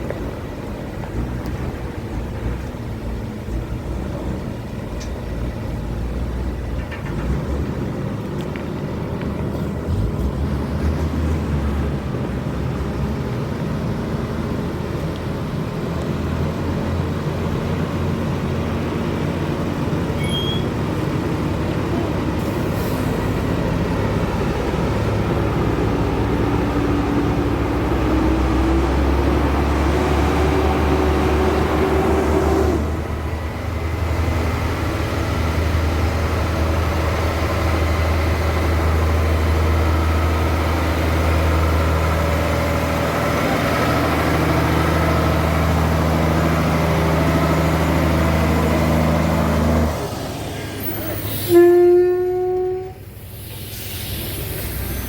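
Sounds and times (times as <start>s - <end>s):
truck diesel engine running: 0.0s - 51.6s, 52.2s - 55.0s.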